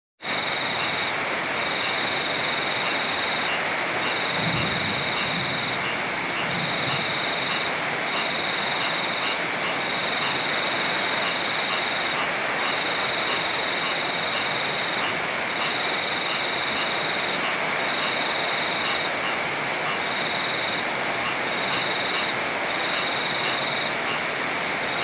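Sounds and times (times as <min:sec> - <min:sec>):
flowing river water: 0:00.2 - 0:25.0
heavy rain: 0:00.2 - 0:25.0.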